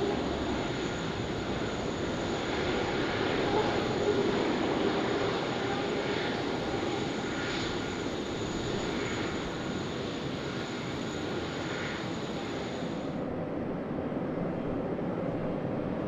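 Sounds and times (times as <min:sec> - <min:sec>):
jet engine rush with whine: 0:00.0 - 0:16.0.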